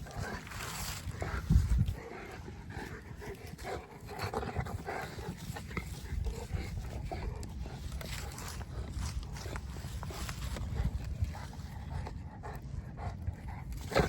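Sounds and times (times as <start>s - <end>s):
dog panting: 0.0s - 14.0s
steady low rumble: 0.0s - 14.0s.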